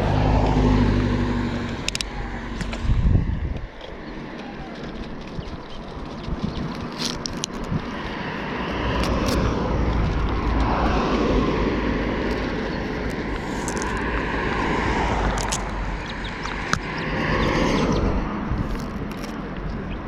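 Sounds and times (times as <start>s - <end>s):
vehicle passing: 0.0s - 19.4s
wind rumble on microphone: 0.0s - 20.0s.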